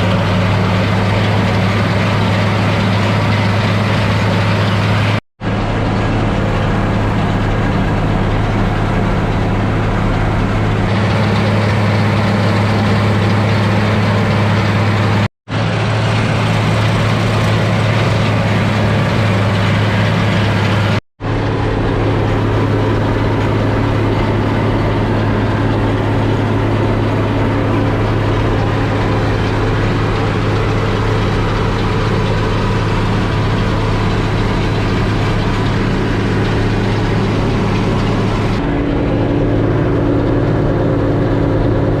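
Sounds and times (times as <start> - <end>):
machinery rumble: 0.0 - 42.0
tractor diesel engine under load: 0.0 - 42.0.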